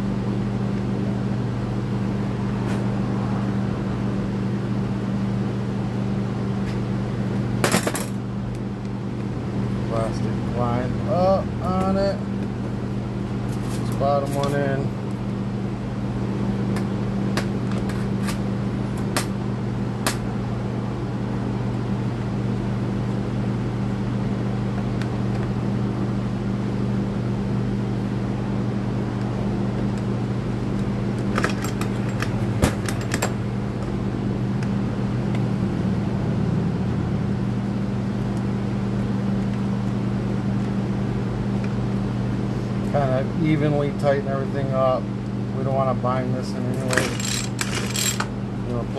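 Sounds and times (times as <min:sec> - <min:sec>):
electric fans humming: 0:00.0 - 0:48.9.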